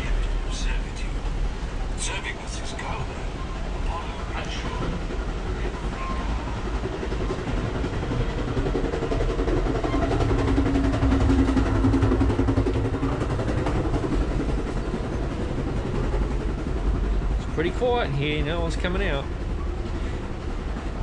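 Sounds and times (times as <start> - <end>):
train car rumbling and rattling: 0.0 - 21.0.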